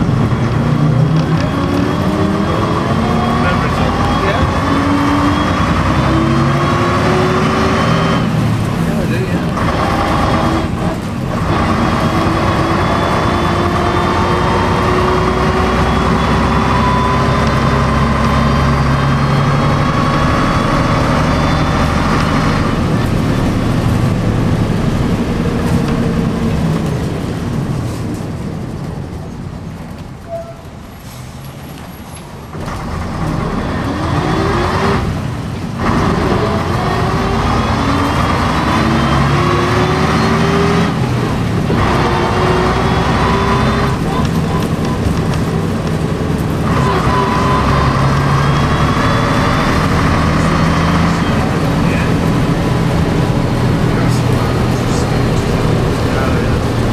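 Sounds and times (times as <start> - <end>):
bus diesel engine: 0.0 - 56.9.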